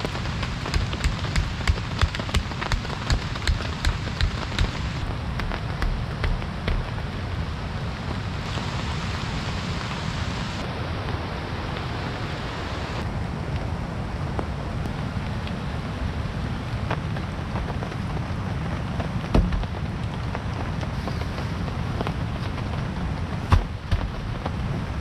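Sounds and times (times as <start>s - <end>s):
raindrops ticking on surfaces: 0.0s - 25.0s
steady rain falling: 0.0s - 25.0s.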